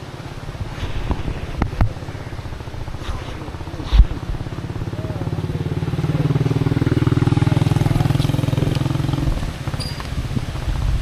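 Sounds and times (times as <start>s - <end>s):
small engine running: 0.8s - 10.4s.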